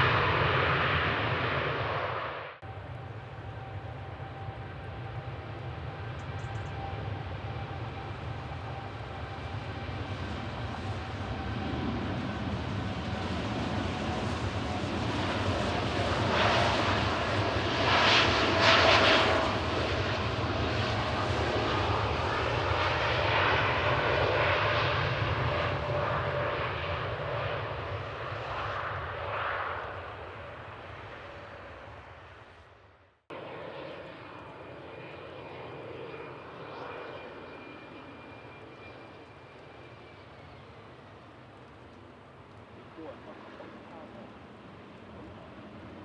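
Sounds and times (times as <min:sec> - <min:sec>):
distant jet engine whine: 0:00.0 - 0:46.0
jet airliner engines passing: 0:00.0 - 0:46.0.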